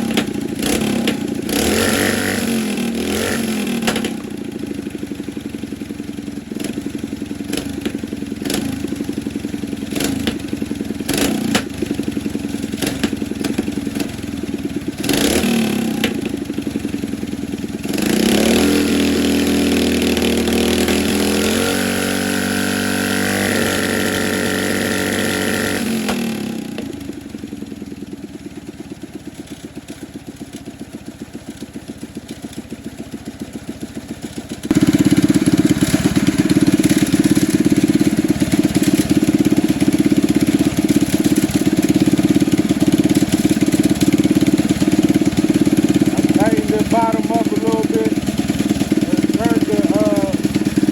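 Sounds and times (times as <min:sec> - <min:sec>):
small engine idling and revving: 0:00.0 - 0:50.9.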